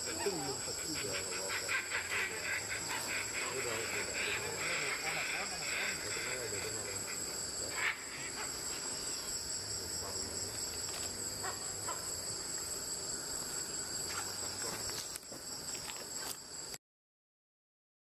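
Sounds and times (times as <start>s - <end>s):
insect chorus drone: 0.0s - 16.8s.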